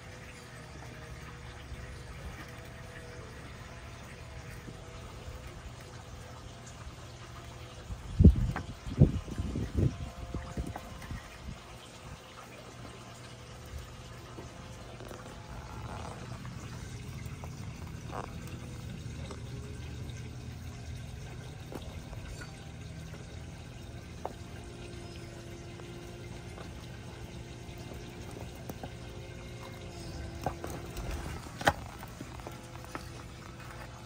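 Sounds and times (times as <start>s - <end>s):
low steady hum: 0.0s - 34.0s
water running and trickling: 0.0s - 34.0s.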